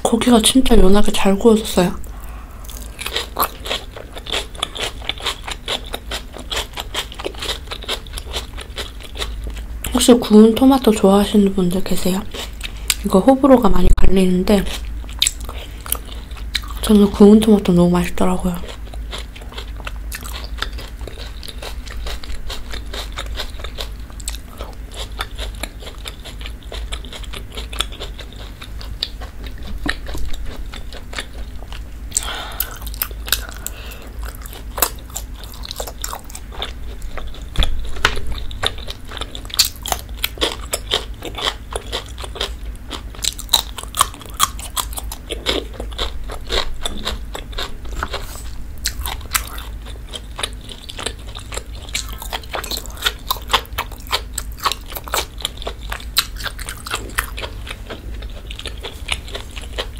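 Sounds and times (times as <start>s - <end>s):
chewing and biting: 2.1s - 10.0s, 14.7s - 16.9s, 18.5s - 59.9s.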